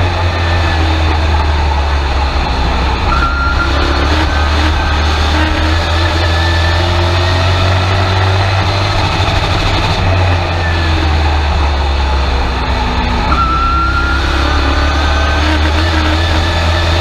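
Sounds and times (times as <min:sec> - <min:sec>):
truck engine running at low revs: 0:00.0 - 0:17.0.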